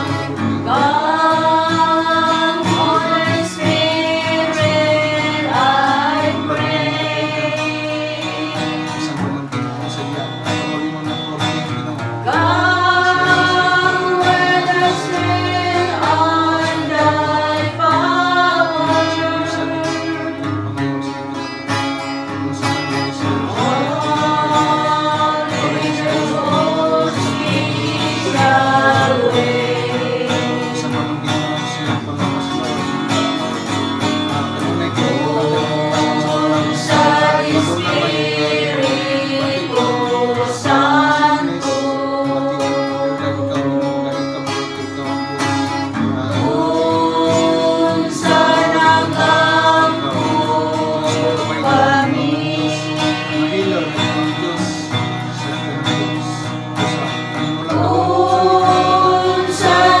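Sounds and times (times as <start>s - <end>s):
guitar accompaniment: 0.0s - 60.0s
person singing worship song: 0.0s - 60.0s.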